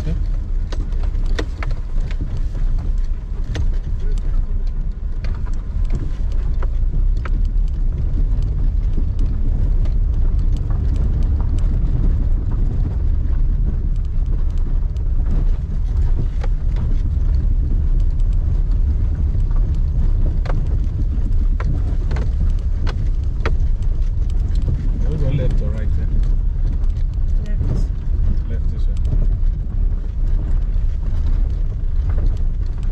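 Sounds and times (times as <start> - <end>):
car cabin rumble: 0.0 - 32.9
small clicks and knocks: 0.0 - 32.9.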